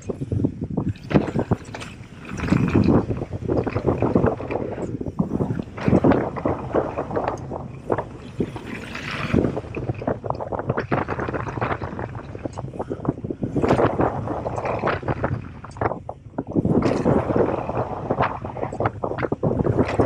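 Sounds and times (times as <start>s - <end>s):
bike tyres rumbling over dirt: 0.0s - 20.0s
wind on microphone: 0.0s - 20.0s
bike knocking and rattling: 0.8s - 20.0s.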